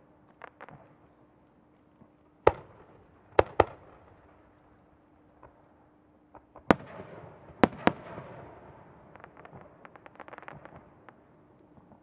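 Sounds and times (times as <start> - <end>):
crackling firework pops: 0.0 - 8.5, 9.1 - 12.0.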